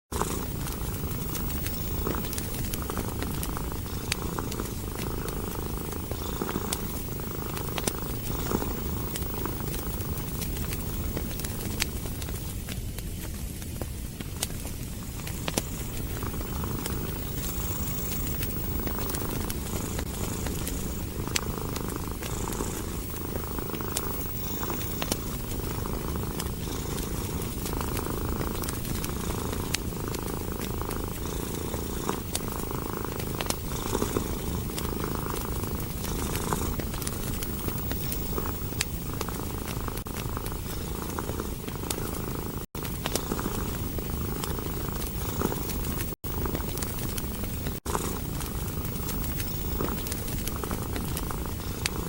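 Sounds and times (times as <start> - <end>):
cat purring: 0.1 - 52.0
wood fire crackling: 0.1 - 52.0.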